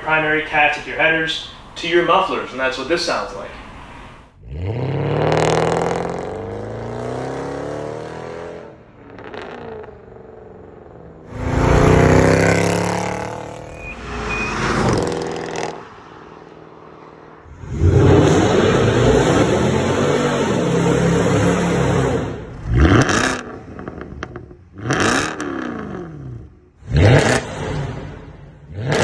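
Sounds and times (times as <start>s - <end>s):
car engine revving and accelerating: 4.4s - 29.0s.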